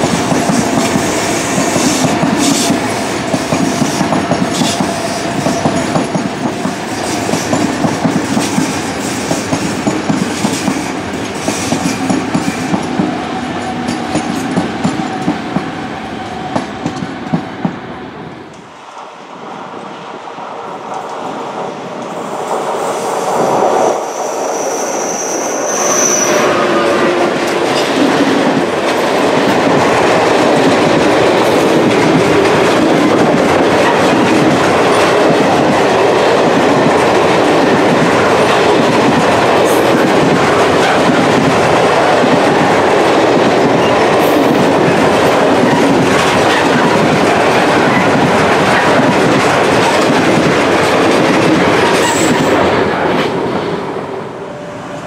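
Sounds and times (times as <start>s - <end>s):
freight train passing: 0.0s - 55.0s
high locomotive whine: 0.0s - 55.0s.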